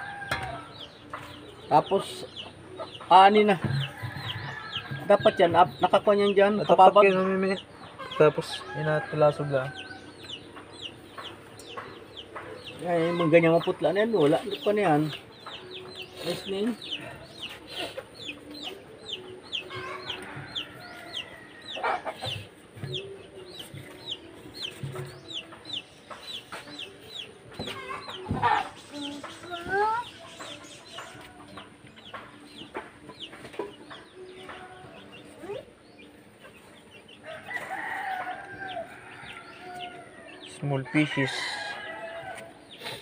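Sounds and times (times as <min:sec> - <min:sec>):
hens clucking: 0:00.0 - 0:43.0
chick peeping: 0:00.2 - 0:08.7, 0:09.5 - 0:43.0.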